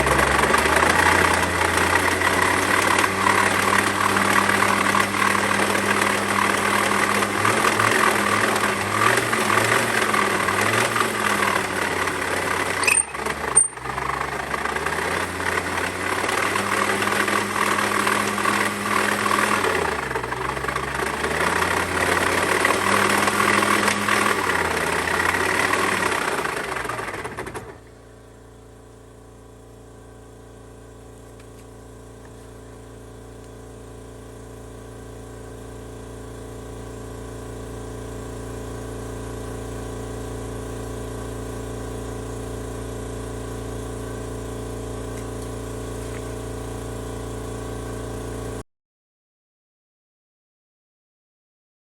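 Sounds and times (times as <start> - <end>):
scooter engine running: 0.0 - 48.6.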